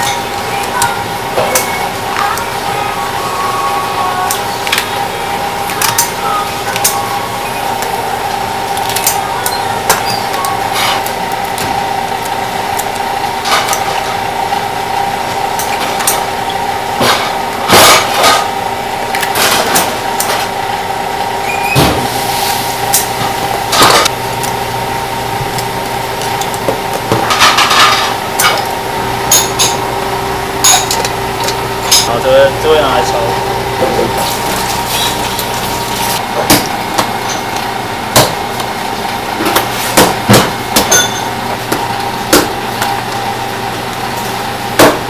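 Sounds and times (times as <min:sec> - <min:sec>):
utensils and dishes clinking: 0:00.0 - 0:14.3, 0:15.4 - 0:20.5, 0:21.5 - 0:24.6, 0:25.4 - 0:37.7, 0:39.0 - 0:43.3
steady mechanical hum: 0:00.0 - 0:45.0.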